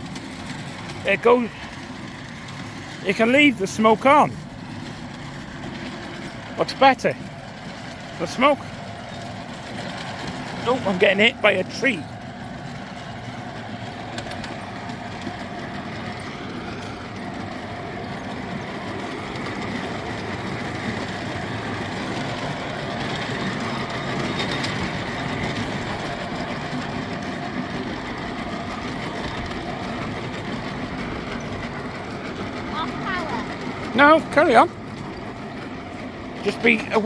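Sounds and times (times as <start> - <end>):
miniature locomotive running: 0.0 - 37.0
wheel-on-rail clicks: 0.0 - 37.0.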